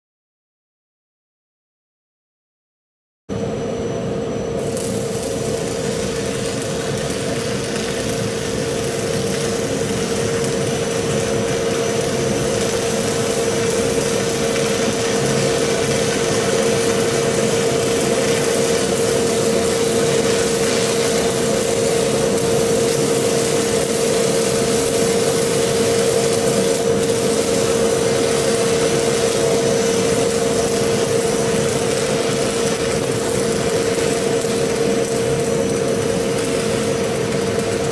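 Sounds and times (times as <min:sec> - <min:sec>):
extractor fan humming: 0:04.4 - 0:37.9
arc welding crackling: 0:04.5 - 0:37.9.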